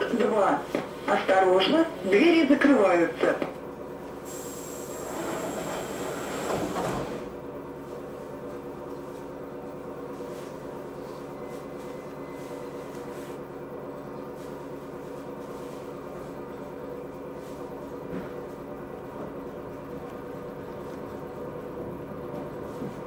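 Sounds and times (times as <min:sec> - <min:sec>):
electric train hum: 0:00.0 - 0:23.0.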